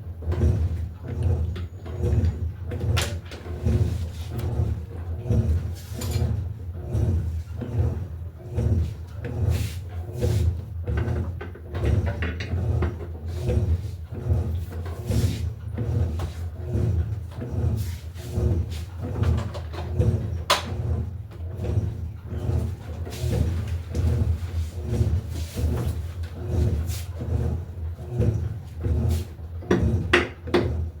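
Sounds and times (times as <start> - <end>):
washing machine churning water: 0.0 - 31.0.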